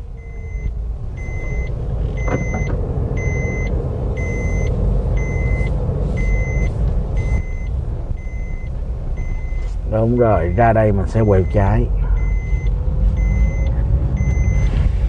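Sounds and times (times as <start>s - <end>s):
car engine and tyres: 0.0s - 15.0s
electronic warning beeps: 0.2s - 14.7s.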